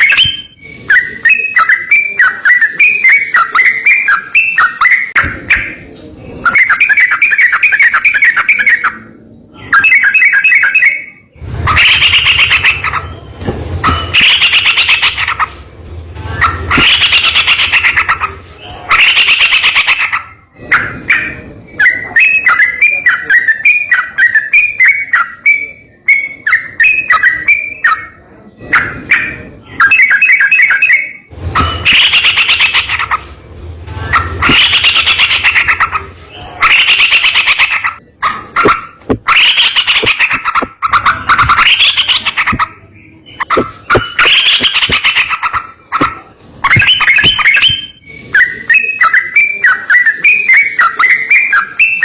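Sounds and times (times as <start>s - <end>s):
quick chirping notes: 0.0s - 33.3s, 34.0s - 51.2s
bird harsh calls: 0.0s - 52.0s.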